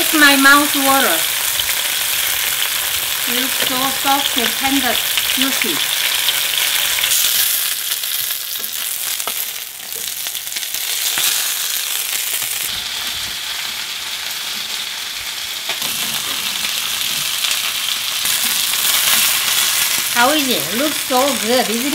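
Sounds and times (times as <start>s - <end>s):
oil sizzling: 0.0s - 21.9s.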